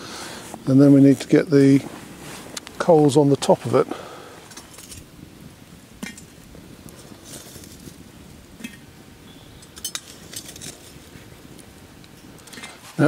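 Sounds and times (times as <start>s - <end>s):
fire crackling: 0.0s - 13.0s
embers clinking on cast-iron lid: 2.5s - 13.0s.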